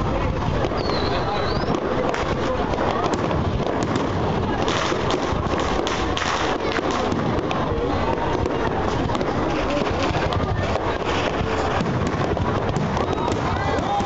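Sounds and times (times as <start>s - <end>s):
fireworks crackling and popping: 0.0s - 14.0s
steady background noise: 0.0s - 14.0s.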